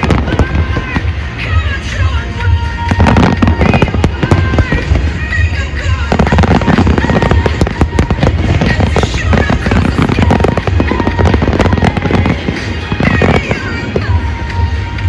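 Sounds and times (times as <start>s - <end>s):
deep rumble: 0.0s - 15.0s
music playing: 0.0s - 15.0s.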